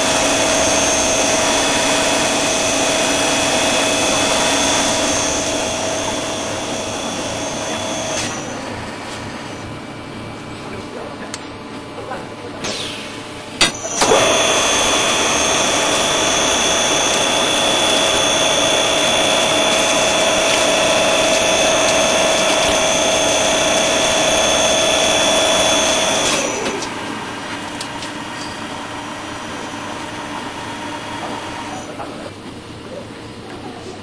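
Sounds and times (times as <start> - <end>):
core drill whining: 0.0 - 10.6, 13.4 - 32.1.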